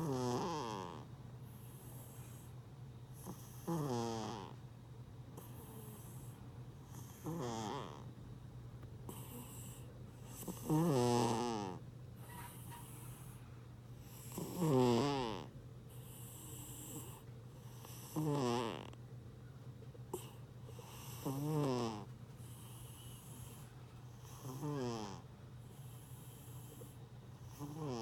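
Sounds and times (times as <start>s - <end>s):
cat snoring: 0.0s - 2.5s, 3.1s - 4.6s, 5.4s - 8.1s, 9.1s - 13.4s, 14.0s - 19.0s, 20.1s - 28.0s.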